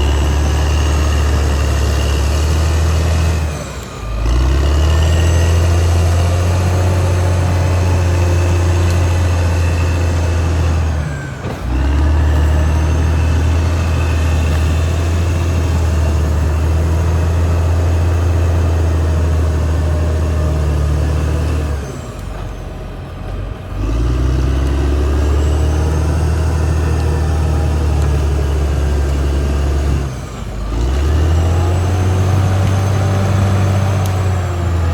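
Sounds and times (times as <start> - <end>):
bulldozer diesel engine droning: 0.0 - 34.9.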